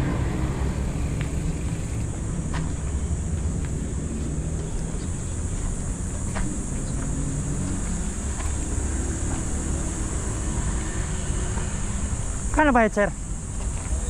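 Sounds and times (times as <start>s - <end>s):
engine rumbling: 0.0s - 14.0s
high insect drone: 0.0s - 14.0s.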